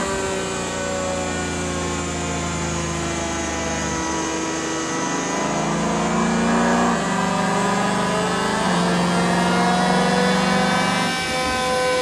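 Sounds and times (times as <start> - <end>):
car engine revving under hard throttle: 0.0 - 12.0.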